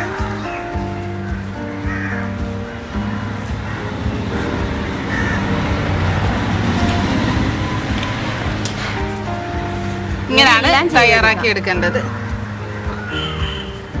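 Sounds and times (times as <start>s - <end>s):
motor vehicle passing: 2.3s - 14.0s.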